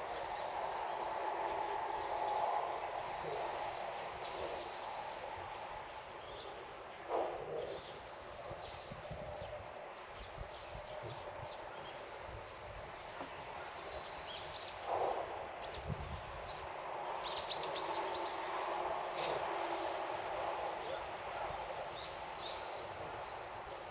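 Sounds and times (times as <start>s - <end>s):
background hum: 0.0s - 23.9s
small birds chirping: 0.0s - 23.9s.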